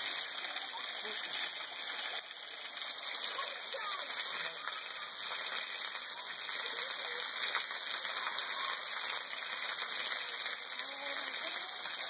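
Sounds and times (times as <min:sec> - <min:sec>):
waterfall splashing on rock: 0:00.0 - 0:12.0.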